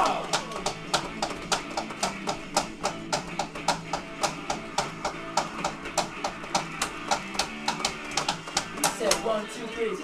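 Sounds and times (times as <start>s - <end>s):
instrumental music with fast drum beat: 0.0s - 9.4s.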